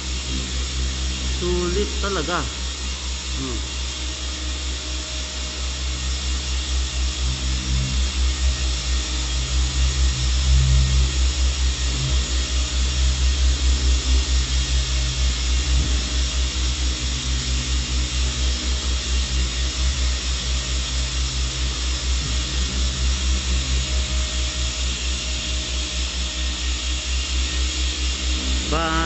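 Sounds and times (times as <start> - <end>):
constant hiss: 0.0 - 29.0
motor running with low throb: 0.0 - 29.0.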